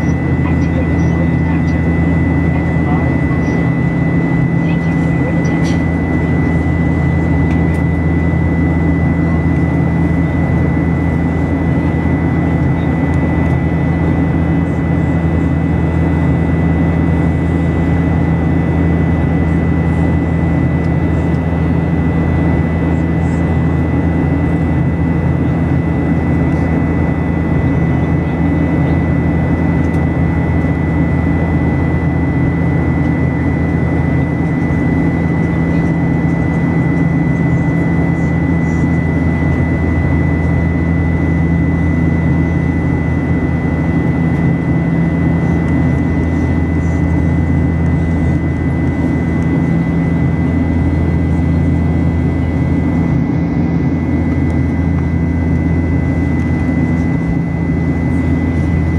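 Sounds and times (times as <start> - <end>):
airliner engine drone: 0.0 - 58.9.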